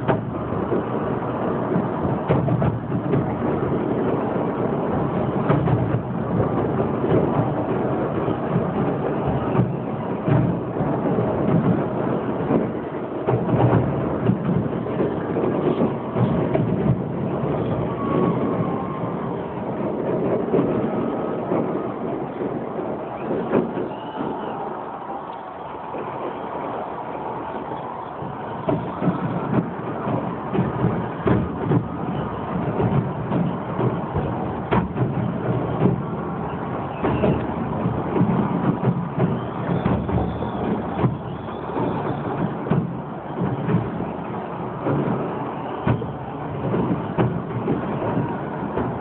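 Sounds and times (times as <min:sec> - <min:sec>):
fireworks rumble: 0:00.0 - 0:49.0
sharp firework bangs: 0:00.0 - 0:49.0.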